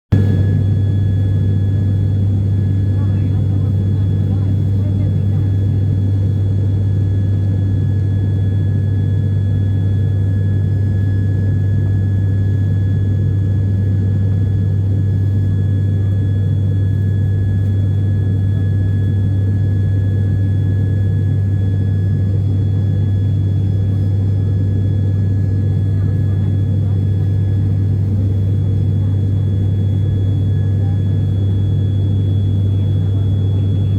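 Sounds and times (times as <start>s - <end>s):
propeller drone: 0.1s - 33.9s.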